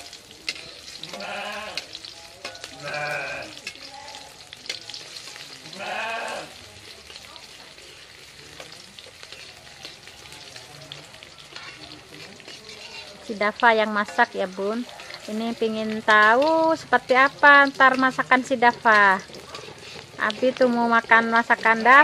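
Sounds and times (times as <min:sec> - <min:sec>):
shallots sizzling in hot oil: 0:00.0 - 0:22.0
spoon stirring in pan: 0:00.0 - 0:22.0.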